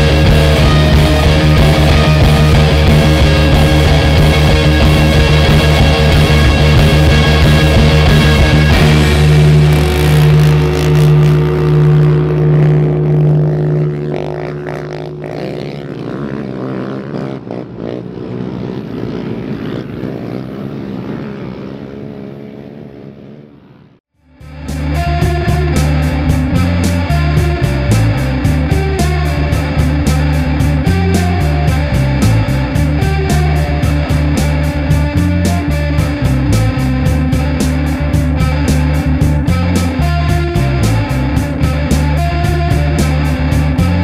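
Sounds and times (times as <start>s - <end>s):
rock music: 0.0s - 16.6s, 24.2s - 44.0s
pulsing low note: 0.0s - 22.9s, 23.5s - 44.0s.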